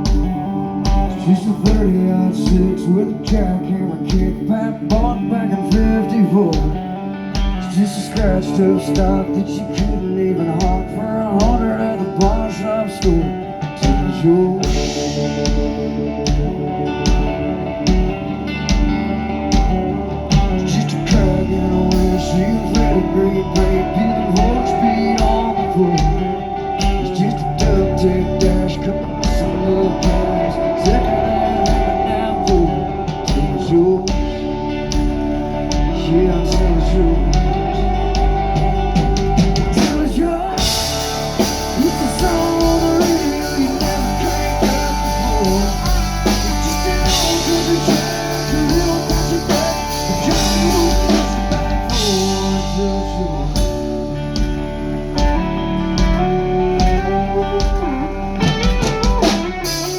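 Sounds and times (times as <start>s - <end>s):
drums and cymbals: 0.0s - 59.9s
live country-rock band playing: 0.0s - 59.9s.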